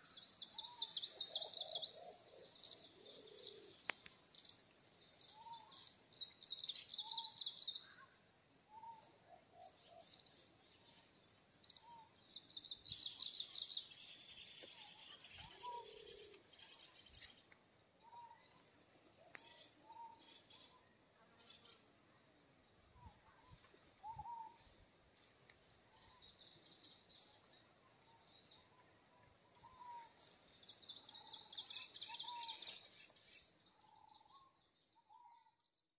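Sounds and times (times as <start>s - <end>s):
bird chirps: 0.0s - 22.0s, 22.6s - 35.9s.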